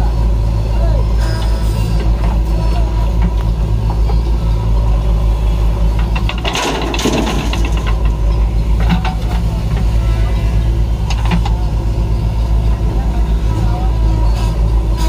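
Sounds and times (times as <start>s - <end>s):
diesel engines running: 0.0s - 15.0s
mud tipping into trailer: 1.2s - 15.0s.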